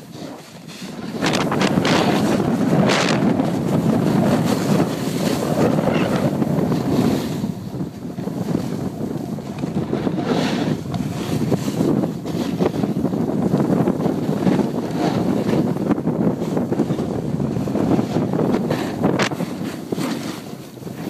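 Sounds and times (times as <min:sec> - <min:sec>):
snowboard scraping on snow: 0:00.0 - 0:21.0
wind rushing over microphone: 0:00.0 - 0:21.0.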